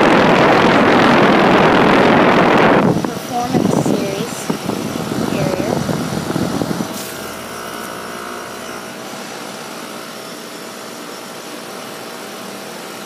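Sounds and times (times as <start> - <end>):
air conditioner fan rushing: 0.0 - 13.0.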